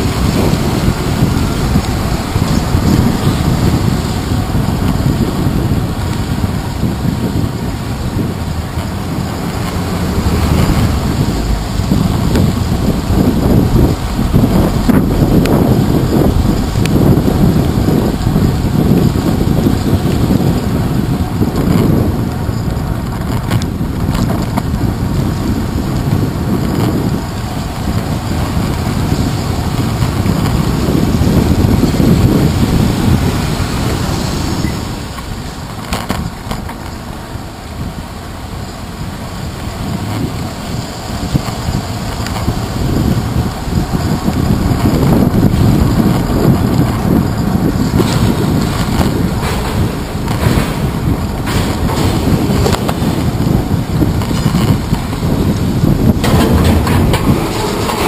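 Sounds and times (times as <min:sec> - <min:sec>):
muffled wind and road rumble: 0:00.0 - 0:58.0.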